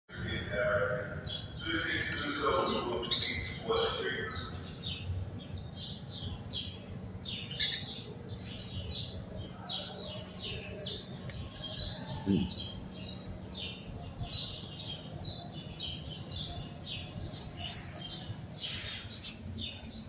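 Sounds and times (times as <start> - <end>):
sparrows chirping: 0.1 - 20.0.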